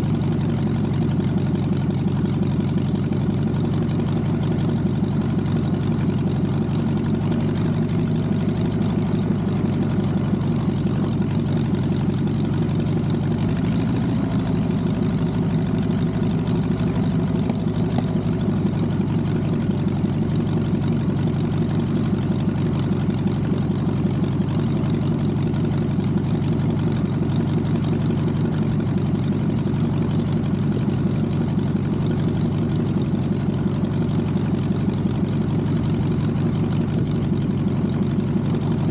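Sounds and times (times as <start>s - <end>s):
aircraft engine idling: 0.0s - 38.9s.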